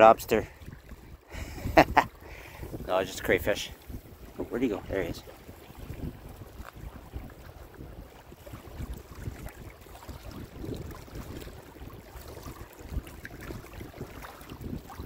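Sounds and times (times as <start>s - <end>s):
wind buffeting the microphone: 0.0s - 15.0s
small waves lapping on rocks: 2.0s - 15.0s.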